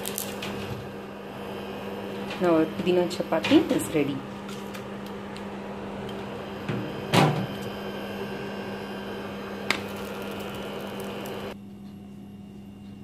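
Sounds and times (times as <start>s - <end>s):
kitchen hum: 0.0s - 11.6s.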